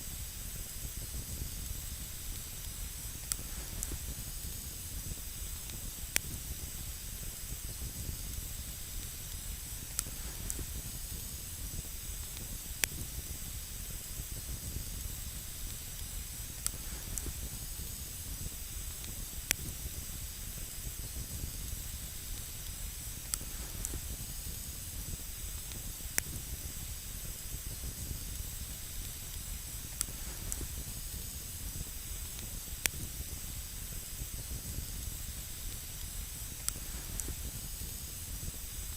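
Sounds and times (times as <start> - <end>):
campfire hissing: 0.0 - 38.9
fire crackling pops: 0.0 - 38.9.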